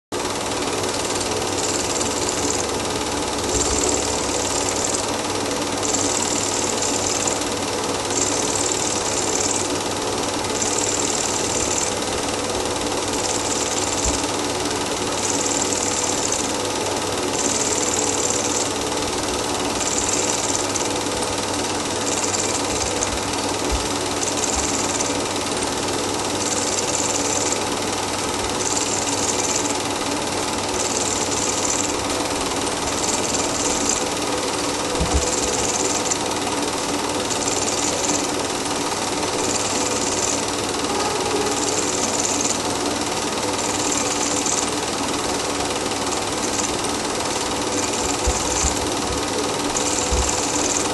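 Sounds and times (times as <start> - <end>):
film projector whirr and clatter: 0.1 - 50.9.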